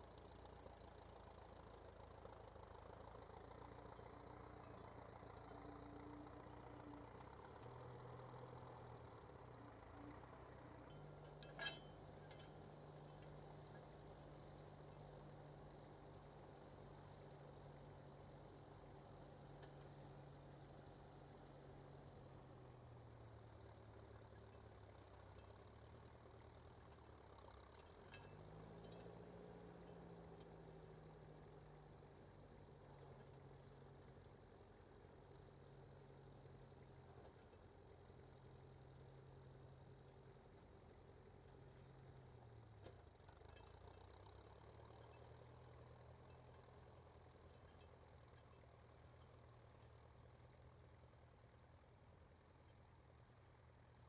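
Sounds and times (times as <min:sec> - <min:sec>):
faint tractor engine running: 0:00.0 - 0:54.0.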